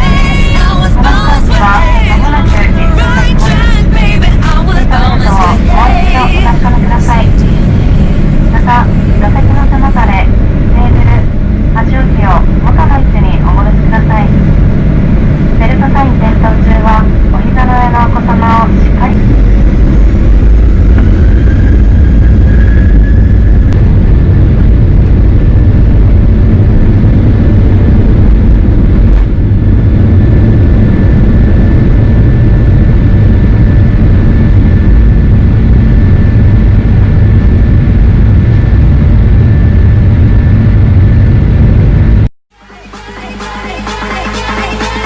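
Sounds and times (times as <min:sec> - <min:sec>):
jet engines rumbling and whining: 0:00.0 - 0:45.0.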